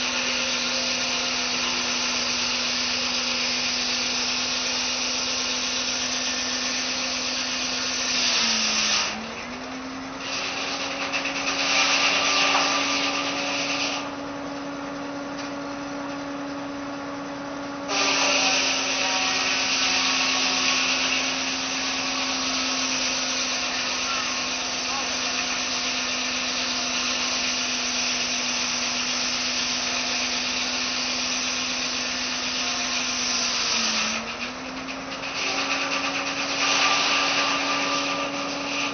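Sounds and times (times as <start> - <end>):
circular saw blade humming: 0.0 - 9.5, 10.1 - 14.7, 17.8 - 38.9
saw rasping through wood: 0.0 - 9.5, 10.2 - 14.2, 17.9 - 38.9.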